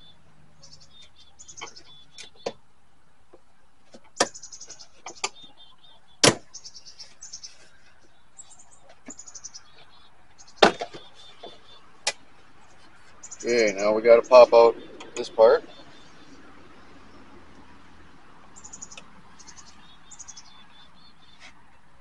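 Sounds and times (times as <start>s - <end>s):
high chirping trills: 0.0s - 2.6s, 4.2s - 12.0s, 12.6s - 21.5s.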